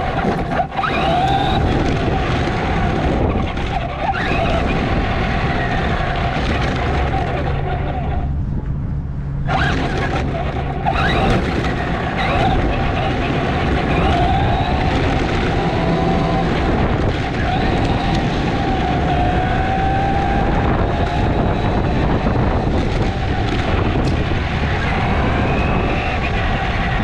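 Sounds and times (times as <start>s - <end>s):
electric motor whine: 0.0s - 8.4s, 9.3s - 27.0s
wind buffeting microphone: 0.0s - 27.0s.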